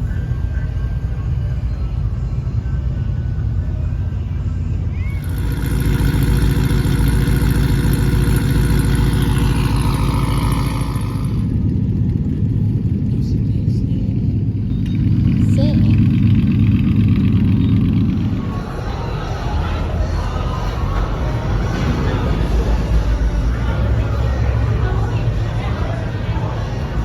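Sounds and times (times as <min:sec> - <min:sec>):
truck engine rumbling: 0:00.0 - 0:27.0.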